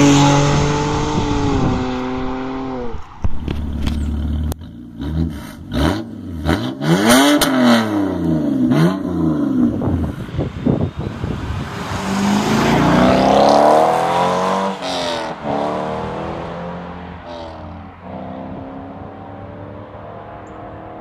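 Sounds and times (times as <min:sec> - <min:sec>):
car accelerating with loud exhaust: 0:00.0 - 0:21.0.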